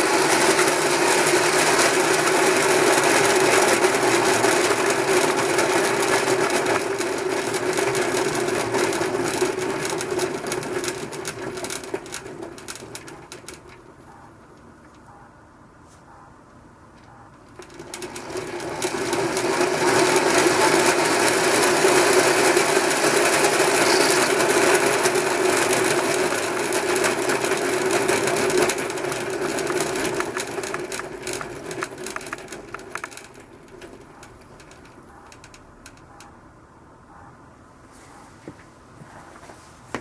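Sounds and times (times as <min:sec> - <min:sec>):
gear hub rapid clicking rattle: 0:00.0 - 0:14.3, 0:17.0 - 0:36.4.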